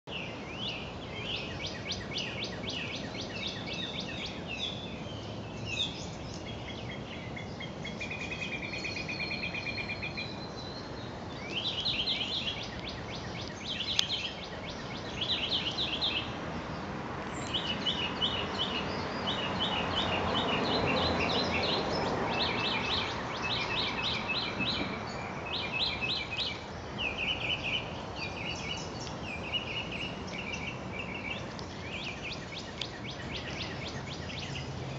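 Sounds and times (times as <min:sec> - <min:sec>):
outdoor background hiss: 0:00.1 - 0:34.9
songbirds chirping and trilling: 0:00.1 - 0:34.9.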